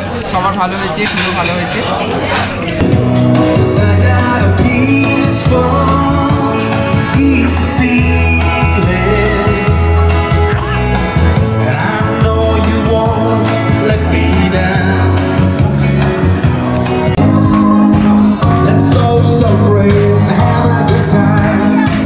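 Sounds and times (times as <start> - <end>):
steady low bass: 2.8 - 22.0
person singing: 3.3 - 22.0.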